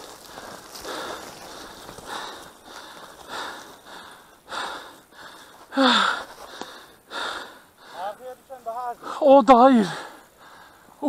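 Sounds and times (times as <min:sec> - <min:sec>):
man breathing hard: 0:00.0 - 0:08.2, 0:09.8 - 0:11.0.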